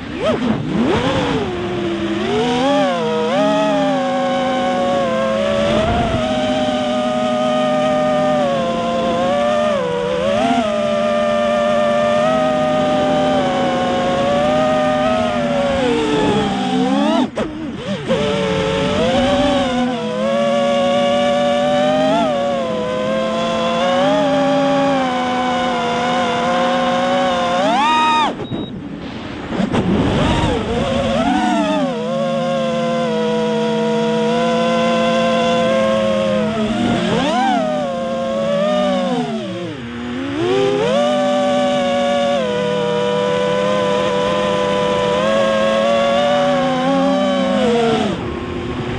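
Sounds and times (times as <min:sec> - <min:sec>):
quadcopter motors whining: 0:00.0 - 0:48.9.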